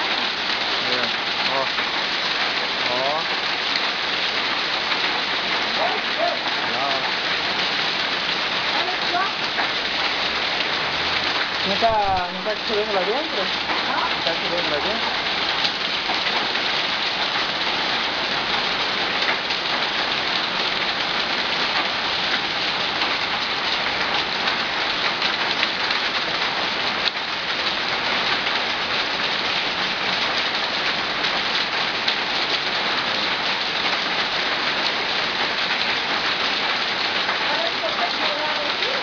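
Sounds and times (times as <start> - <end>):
hail and rain pelting down: 0.0 - 39.0.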